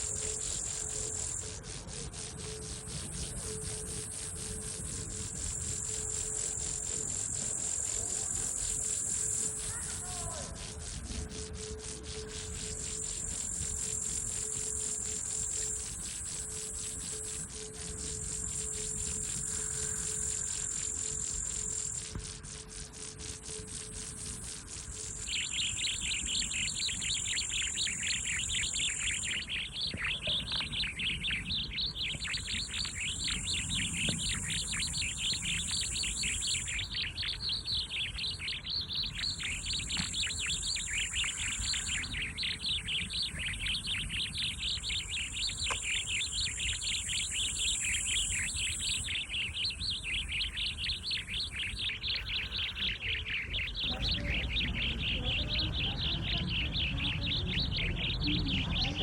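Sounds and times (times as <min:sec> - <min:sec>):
high insect trill: 0:00.0 - 0:59.0
birds chirping: 0:03.0 - 0:59.0.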